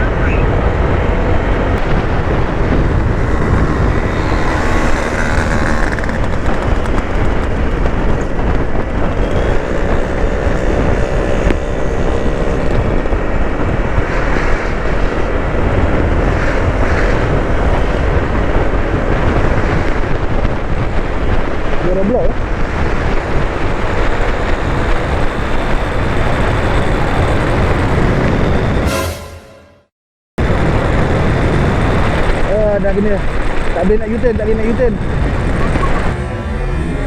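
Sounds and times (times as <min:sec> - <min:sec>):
wind on microphone: 0:00.0 - 0:29.0, 0:30.4 - 0:37.0
road noise: 0:00.0 - 0:37.0
scooter engine running: 0:00.2 - 0:21.7, 0:22.4 - 0:28.1, 0:33.3 - 0:37.0.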